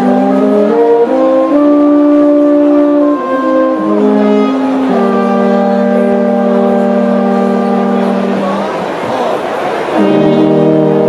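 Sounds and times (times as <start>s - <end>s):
brass band playing chords: 0.0s - 11.0s.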